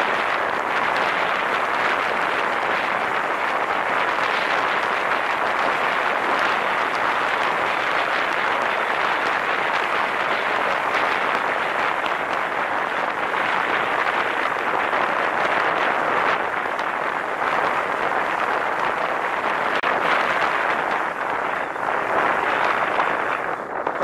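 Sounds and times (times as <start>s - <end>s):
wind rushing: 0.0s - 24.0s.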